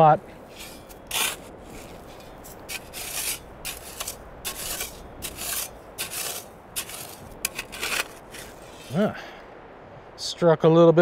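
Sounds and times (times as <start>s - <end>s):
shovel scraping gravelly soil: 0.0s - 9.1s.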